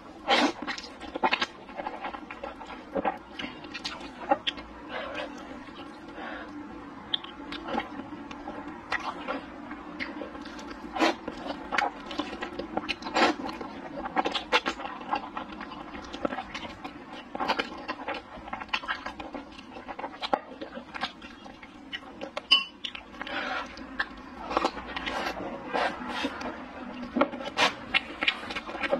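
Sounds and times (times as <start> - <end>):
person chewing and slurping: 0.0 - 28.9.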